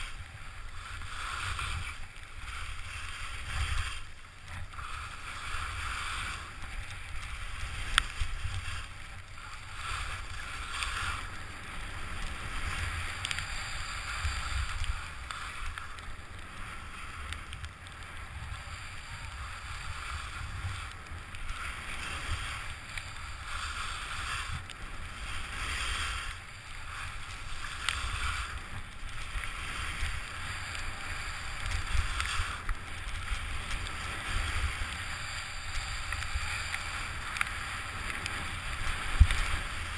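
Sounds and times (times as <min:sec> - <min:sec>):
skis carving snow hiss: 0:00.0 - 0:39.9.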